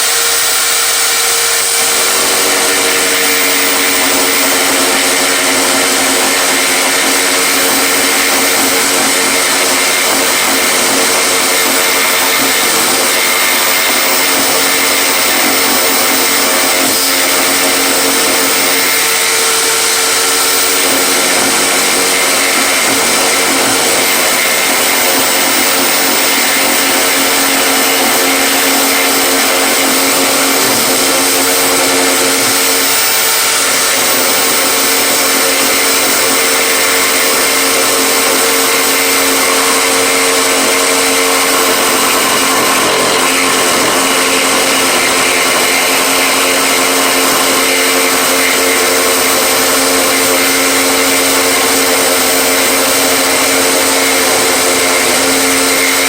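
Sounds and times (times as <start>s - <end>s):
power tool motor whine: 0.0s - 56.0s.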